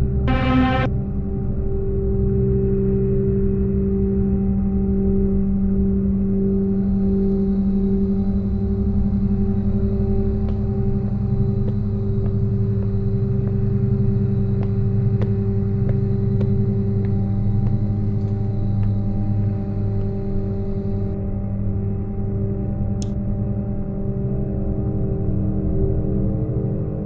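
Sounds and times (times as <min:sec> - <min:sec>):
ambient drone: 0:00.0 - 0:27.0.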